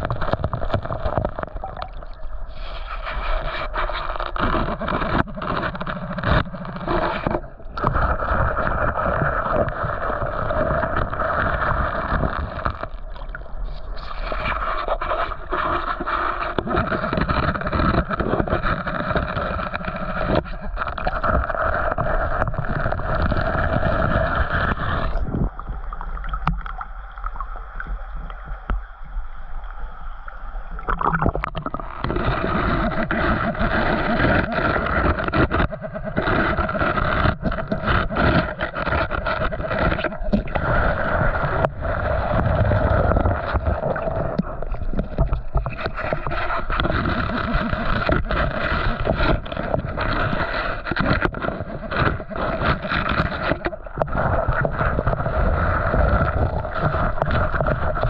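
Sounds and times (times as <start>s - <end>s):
muffled water sloshing and gurgling: 0.0s - 58.0s.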